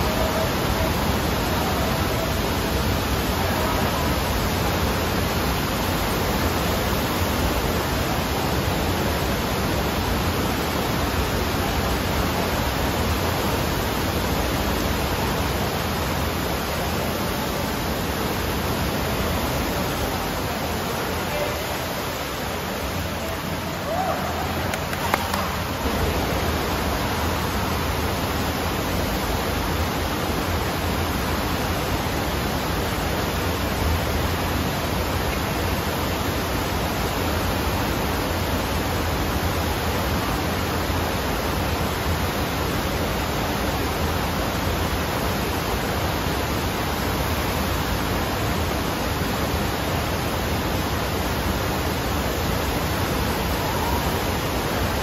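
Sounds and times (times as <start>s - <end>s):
water rushing up a slope: 0.0s - 55.0s.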